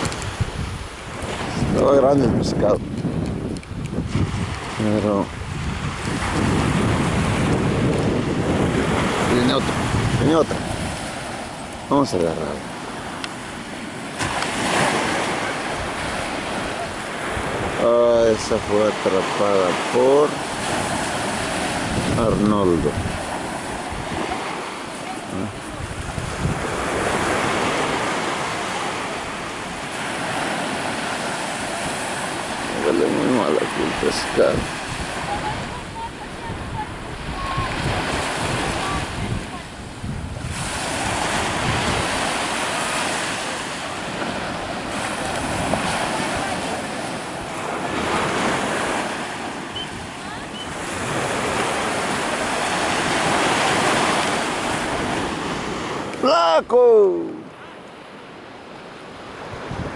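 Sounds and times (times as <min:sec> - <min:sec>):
wind on microphone: 0:00.0 - 0:56.2, 0:58.7 - 0:59.9
waves washing in: 0:00.0 - 0:59.9.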